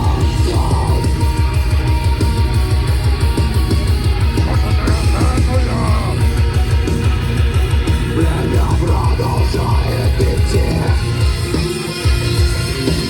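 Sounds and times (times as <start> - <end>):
electric guitars: 0.0 - 13.0
fast drums: 0.0 - 13.0.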